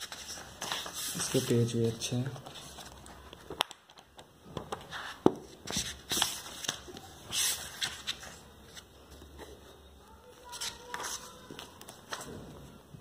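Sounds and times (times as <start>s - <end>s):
book pages turning: 0.0s - 1.7s, 2.3s - 9.6s, 10.4s - 12.4s.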